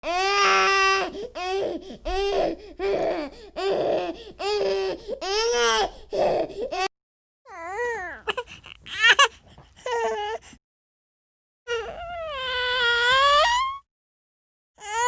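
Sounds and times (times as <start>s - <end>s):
infant crying: 0.0s - 6.9s, 7.5s - 10.4s, 11.7s - 13.8s, 14.8s - 15.0s.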